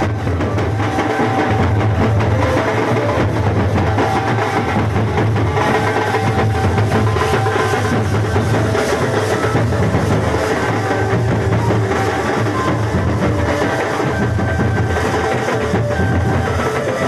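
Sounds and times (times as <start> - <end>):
held melodic notes: 0.0 - 17.0
procession drums beating: 0.0 - 17.0.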